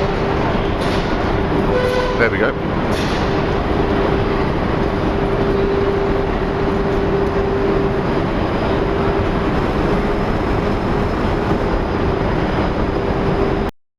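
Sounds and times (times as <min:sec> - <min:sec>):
electric train rumbling: 0:00.0 - 0:13.7
steady train whine: 0:00.0 - 0:13.7.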